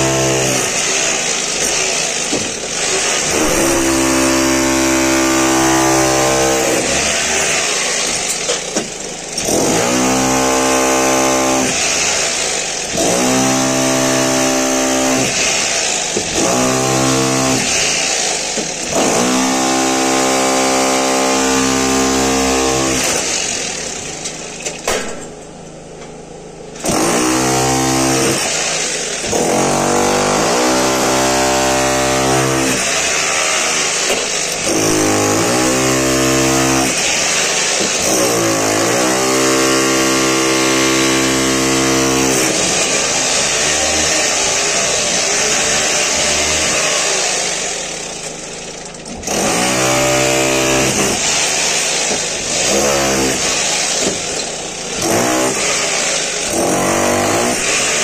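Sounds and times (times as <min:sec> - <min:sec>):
rotary hammer chiselling masonry: 0:00.0 - 0:25.2, 0:26.8 - 0:48.4, 0:49.1 - 0:58.0.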